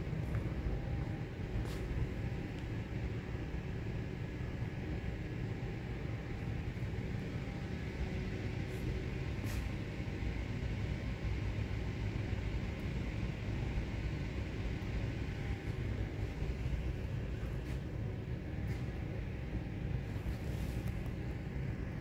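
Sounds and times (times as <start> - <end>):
low rumble and hum: 0.0 - 22.0.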